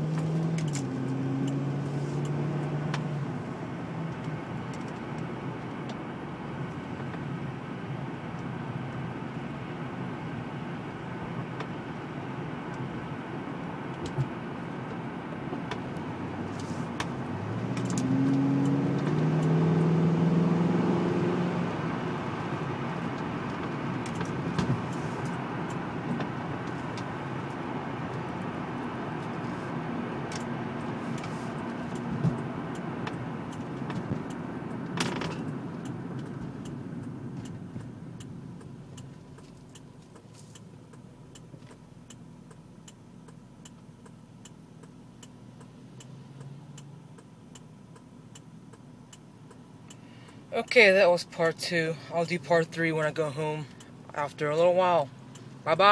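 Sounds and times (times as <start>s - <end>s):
car engine exhaust note: 0.0s - 48.6s.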